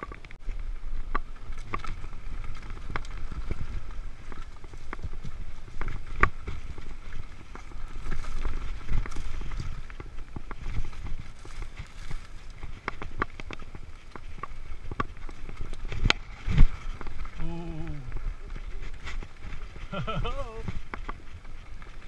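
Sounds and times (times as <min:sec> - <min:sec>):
bike clicking and rattling: 0:00.0 - 0:22.0
bike tyres on dirt: 0:00.0 - 0:22.0
wind rumble on microphone: 0:00.0 - 0:22.0.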